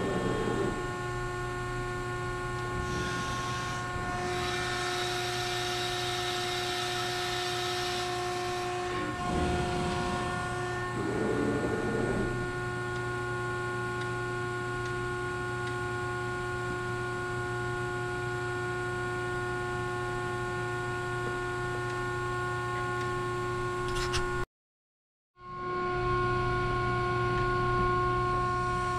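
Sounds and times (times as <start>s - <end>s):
hydraulic power unit humming: 0.0s - 24.4s, 25.5s - 28.9s.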